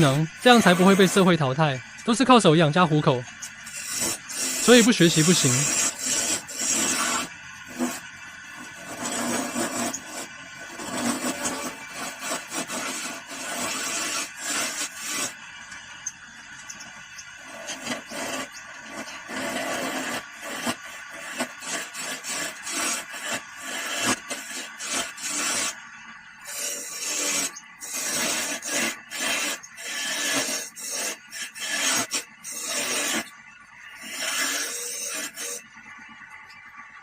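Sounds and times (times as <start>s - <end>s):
wood being rubbed by hand: 0.0s - 1.4s, 3.7s - 15.4s, 17.4s - 25.8s, 26.4s - 33.3s, 34.0s - 35.6s.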